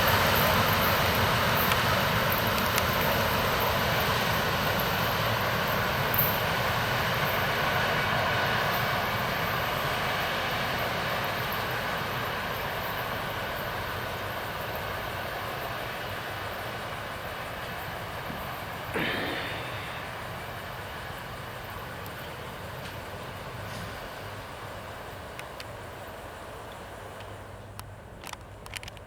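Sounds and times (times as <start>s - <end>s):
train rolling rumble: 0.0s - 29.0s.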